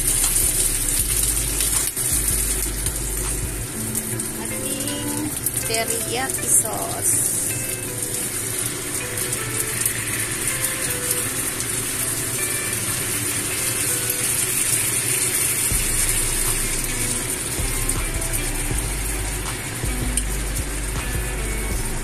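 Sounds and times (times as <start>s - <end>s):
fish sizzling in a frying pan: 0.0s - 22.0s.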